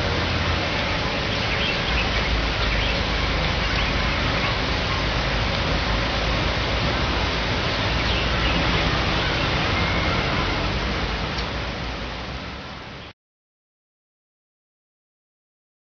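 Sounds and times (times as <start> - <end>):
steady rushing noise: 0.0 - 13.1.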